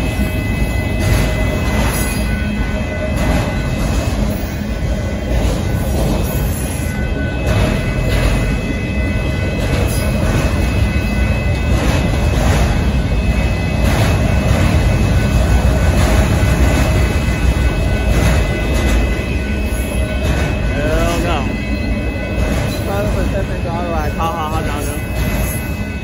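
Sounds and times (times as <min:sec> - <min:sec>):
faint high ringing: 0:00.0 - 0:26.0
train wheels rumbling on rail: 0:00.0 - 0:26.0
wheels clanking: 0:00.0 - 0:26.0.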